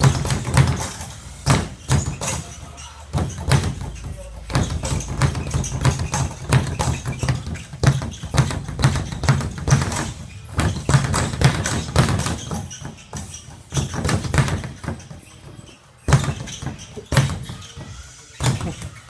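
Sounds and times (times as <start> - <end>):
speed bag being punched: 0.0 - 19.0.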